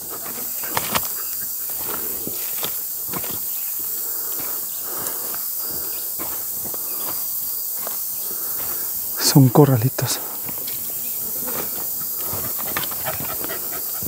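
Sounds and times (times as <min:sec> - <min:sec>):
footsteps on rocky dirt trail: 0:00.0 - 0:14.0
steady high hiss: 0:00.0 - 0:14.0.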